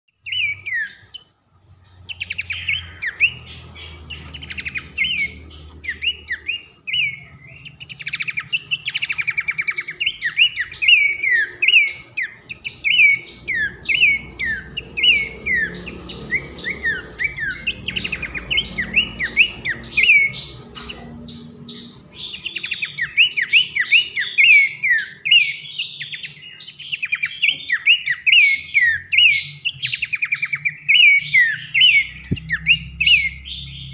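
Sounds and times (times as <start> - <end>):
bird singing whistled notes: 0.1 - 33.9.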